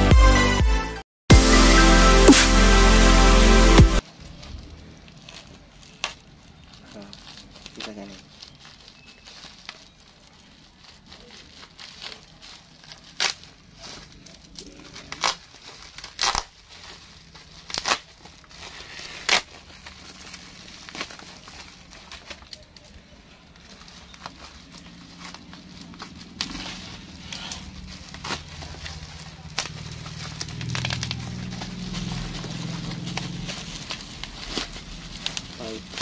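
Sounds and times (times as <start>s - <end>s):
plastic wrapping crinkling: 4.0s - 36.0s
tape ripping: 4.3s - 36.0s.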